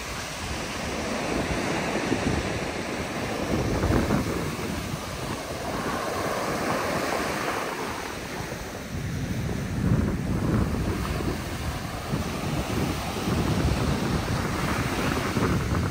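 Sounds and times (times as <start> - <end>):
waves washing up a beach: 0.0 - 15.9
wind buffeting microphone: 0.0 - 15.9.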